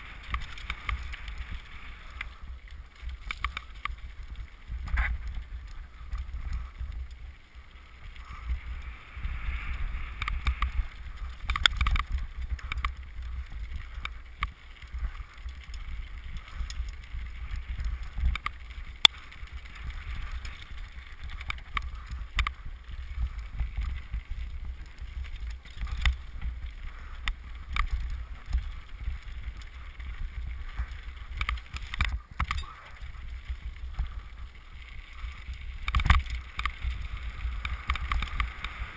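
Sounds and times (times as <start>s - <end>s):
bike clicking and rattling: 0.0s - 38.9s.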